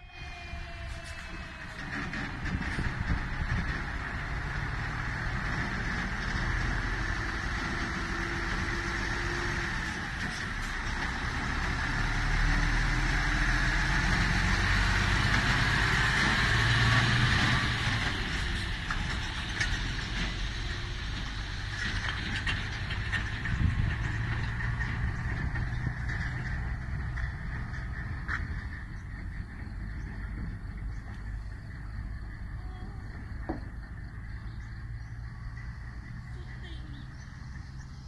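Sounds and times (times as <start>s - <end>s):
diesel truck driving past: 0.0s - 38.0s.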